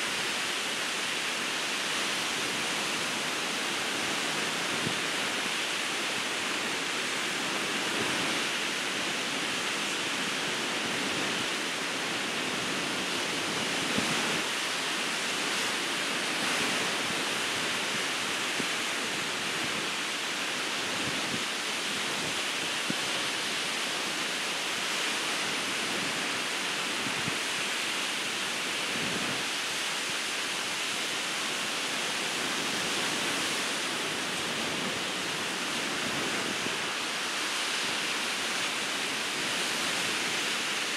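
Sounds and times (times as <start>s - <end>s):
ocean surf breaking: 0.1s - 40.9s.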